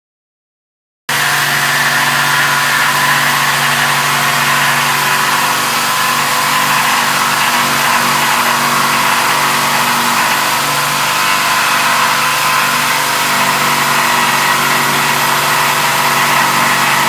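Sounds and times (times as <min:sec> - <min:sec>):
machine motor running with rushing hiss: 0:01.1 - 0:17.0.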